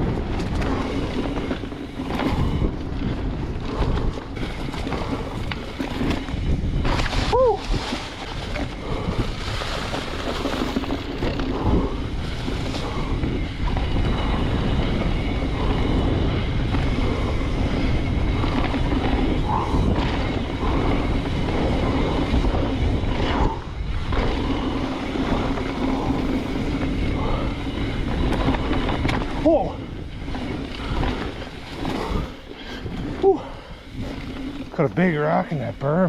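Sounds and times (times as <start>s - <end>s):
bike rattling: 0.0s - 36.0s
tyres on dirt: 0.0s - 36.0s
wind on microphone: 0.0s - 36.0s.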